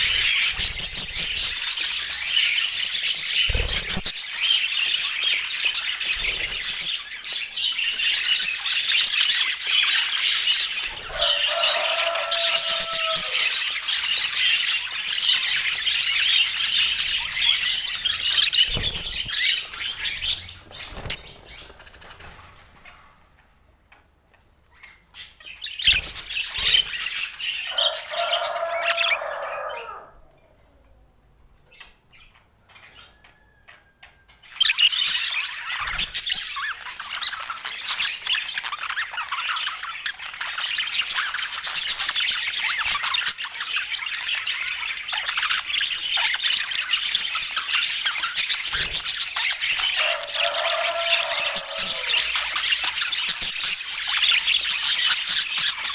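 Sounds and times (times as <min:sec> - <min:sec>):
budgerigars chattering and squawking: 0:00.0 - 0:22.4, 0:24.8 - 0:30.1, 0:31.7 - 0:55.9.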